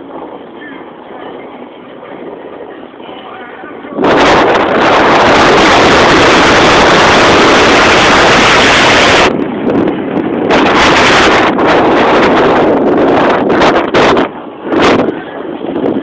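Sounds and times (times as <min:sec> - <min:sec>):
car road noise: 0:00.0 - 0:16.0
wind rushing over microphone: 0:00.0 - 0:16.0.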